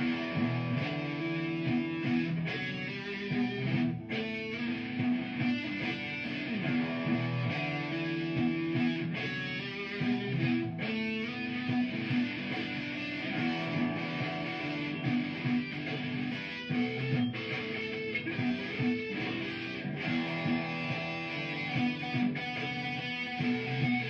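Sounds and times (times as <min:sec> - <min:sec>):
electric guitar solo: 0:00.0 - 0:24.0
looped guitar part: 0:00.0 - 0:24.0.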